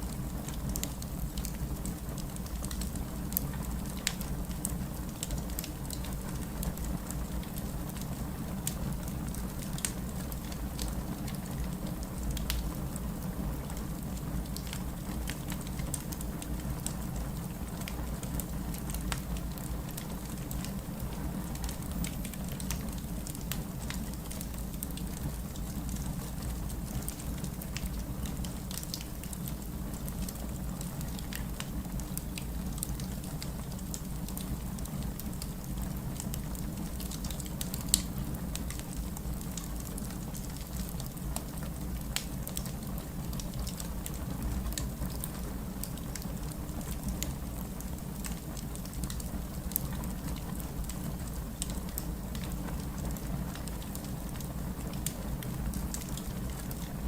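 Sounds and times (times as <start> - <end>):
steady rain: 0.0 - 57.0
wood fire crackling and popping: 0.0 - 57.0.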